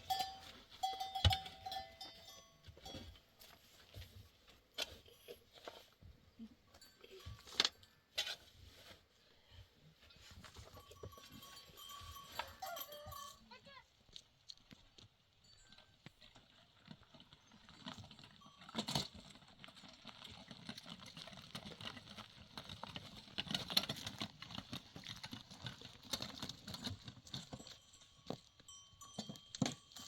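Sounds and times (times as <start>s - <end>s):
hooves clicking over stony ground: 0.0s - 30.0s.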